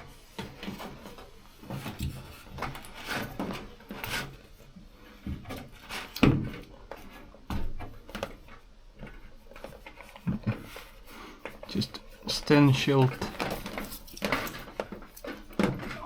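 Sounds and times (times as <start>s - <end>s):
material rustling and knocking: 0.0s - 16.0s.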